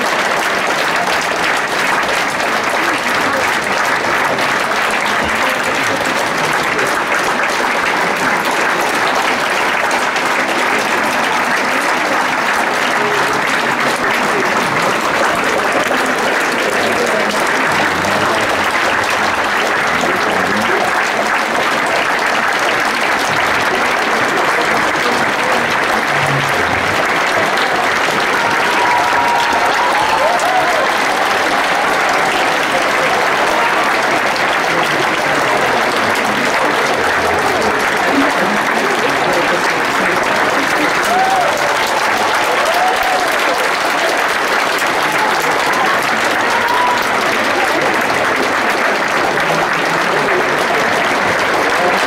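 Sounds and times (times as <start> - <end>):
audience applauding: 0.0 - 52.0.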